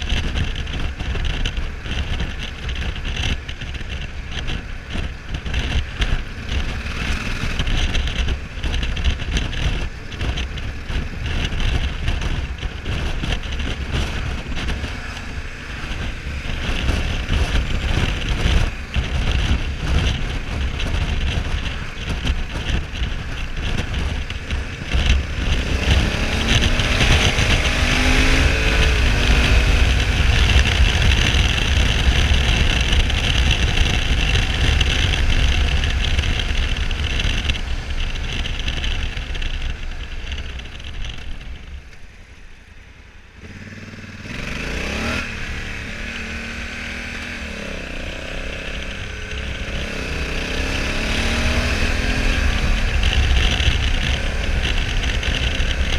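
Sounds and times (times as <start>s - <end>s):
motorcycle engine rumbling: 0.0s - 55.9s
wind rushing over microphone: 0.0s - 55.9s.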